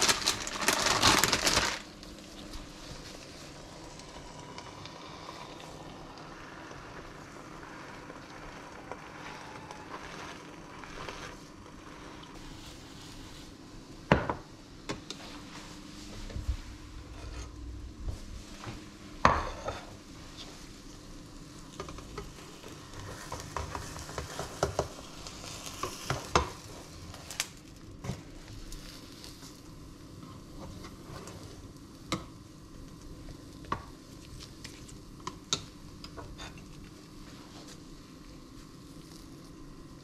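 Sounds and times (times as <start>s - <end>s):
omelette sizzling in frying pan: 0.0s - 14.3s, 19.2s - 40.0s.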